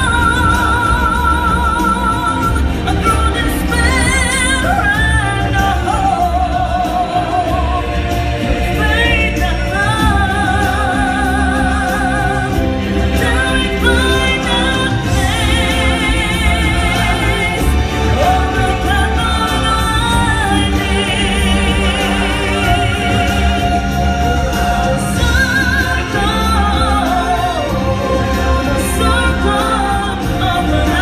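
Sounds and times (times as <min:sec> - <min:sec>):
band track with pulsing bass: 0:00.0 - 0:31.0
singers with wide vibrato: 0:00.0 - 0:31.0.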